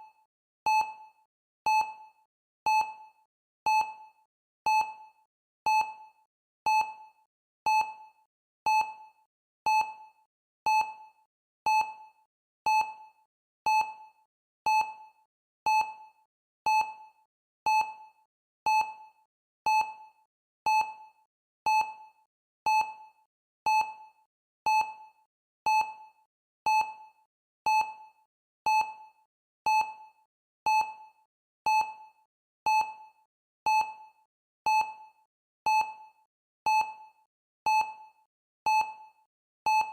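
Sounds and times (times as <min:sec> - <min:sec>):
timer beeps: 0:00.7 - 0:01.1, 0:01.7 - 0:02.1, 0:02.7 - 0:03.1, 0:03.7 - 0:04.1, 0:04.7 - 0:05.1, 0:05.7 - 0:06.1, 0:06.7 - 0:10.1, 0:10.7 - 0:11.1, 0:11.7 - 0:12.1, 0:12.7 - 0:13.1, 0:13.7 - 0:14.1, 0:14.7 - 0:25.1, 0:25.7 - 0:39.9.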